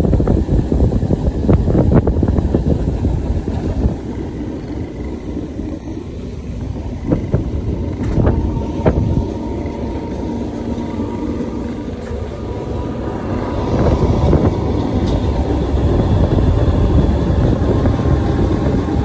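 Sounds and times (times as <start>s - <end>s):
train rumbling on track: 0.0s - 19.0s
wheels clattering over rail joints: 2.7s - 19.0s.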